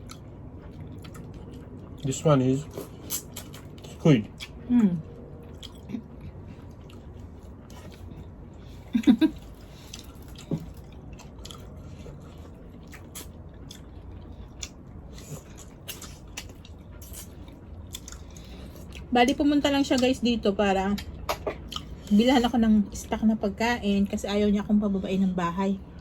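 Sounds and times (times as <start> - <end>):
chewing seafood close-up: 0.0 - 20.2, 20.9 - 22.3.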